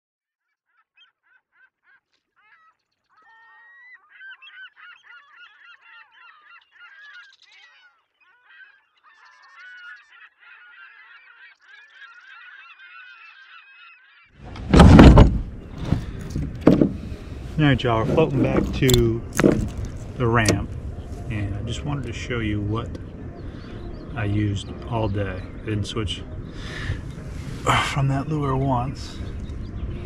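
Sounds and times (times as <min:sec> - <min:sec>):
geese honking: 0:01.0 - 0:14.4, 0:15.6 - 0:30.0.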